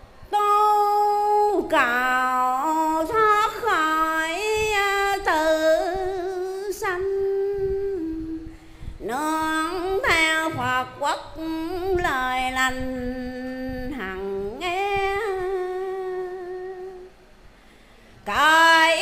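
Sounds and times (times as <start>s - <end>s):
woman chanting a sung prayer: 0.3s - 17.1s, 18.2s - 19.0s.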